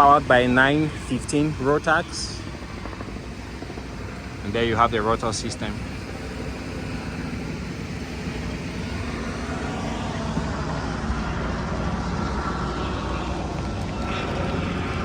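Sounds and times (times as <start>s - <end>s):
low engine drone: 0.0s - 15.0s
outdoor background noise: 0.0s - 15.0s.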